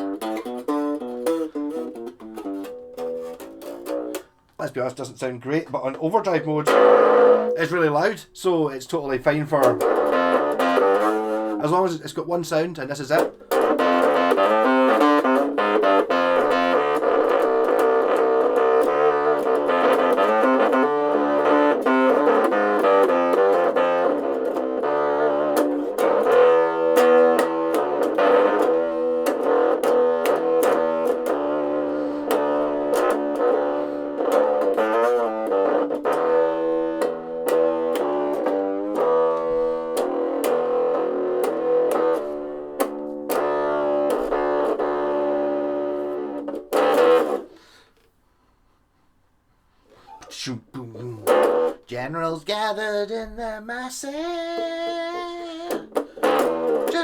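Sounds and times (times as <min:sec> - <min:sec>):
distorted electric bass guitar: 0:00.0 - 0:04.3, 0:04.9 - 0:08.1, 0:09.3 - 0:47.5, 0:50.2 - 0:52.5, 0:53.1 - 0:57.0.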